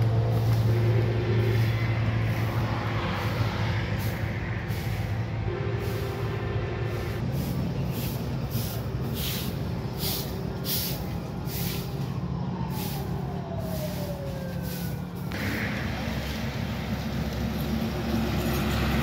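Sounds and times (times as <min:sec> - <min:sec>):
heavy vehicle engine running: 0:00.0 - 0:19.0
passing vehicle whine: 0:00.0 - 0:19.0.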